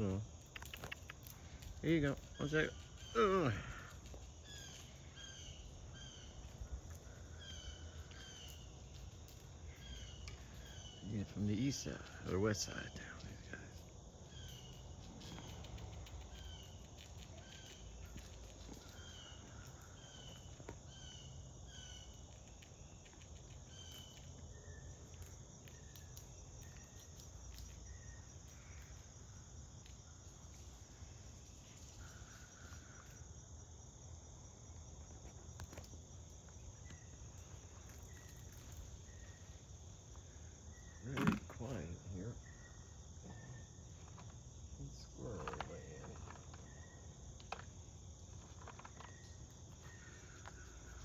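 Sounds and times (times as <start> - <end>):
bird chirping: 0.0 - 13.6, 14.2 - 33.3, 36.5 - 44.2, 49.0 - 51.0
high-pitched insect trill: 0.0 - 51.0.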